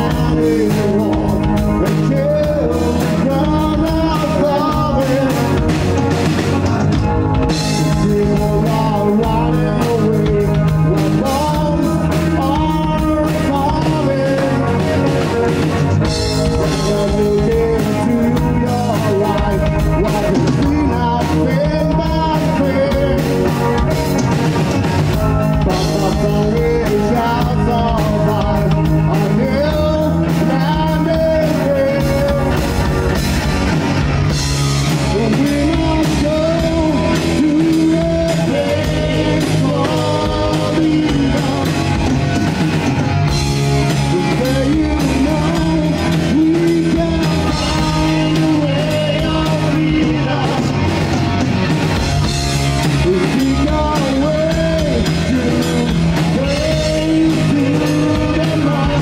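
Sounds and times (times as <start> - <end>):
man singing: 0.0 - 59.0
rock band playing: 0.0 - 59.0.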